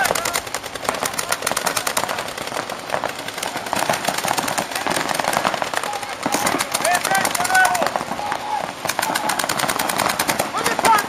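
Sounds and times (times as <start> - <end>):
paintball markers firing rapidly: 0.0 - 11.0.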